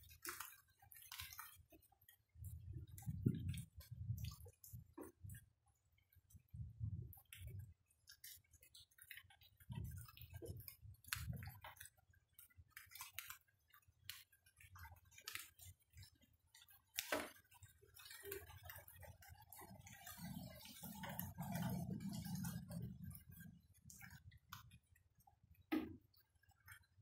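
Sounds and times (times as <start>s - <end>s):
rainwater dripping: 0.0s - 27.0s.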